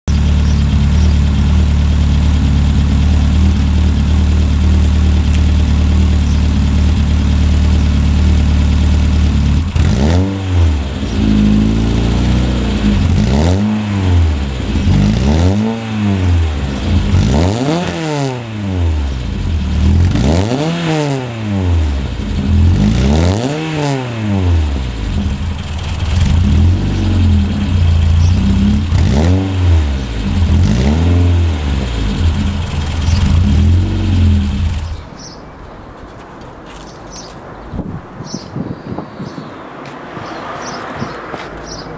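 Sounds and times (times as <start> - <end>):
car engine idling and revving: 0.0 - 35.4, 39.7 - 41.9.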